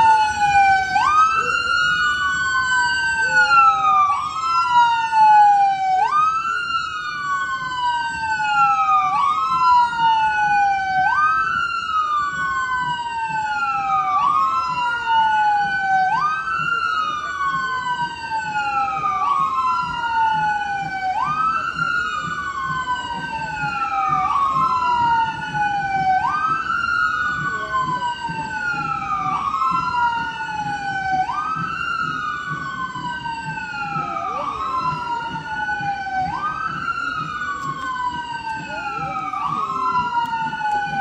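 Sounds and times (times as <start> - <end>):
sirens wailing: 0.0 - 41.0.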